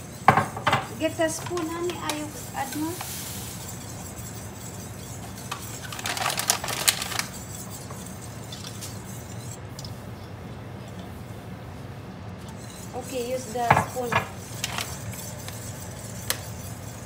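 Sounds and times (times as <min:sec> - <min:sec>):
steady low hum: 0:00.0 - 0:17.0
whisk clicking against metal pot: 0:00.2 - 0:09.9, 0:12.5 - 0:17.0.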